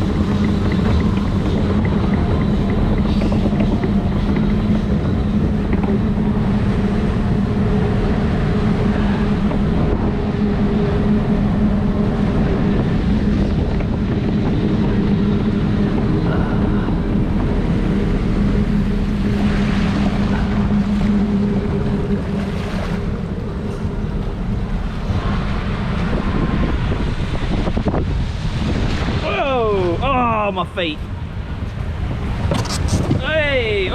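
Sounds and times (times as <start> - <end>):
rushing water: 0.0 - 33.9
steady mechanical hum: 0.0 - 33.9
wind on microphone: 0.0 - 33.9.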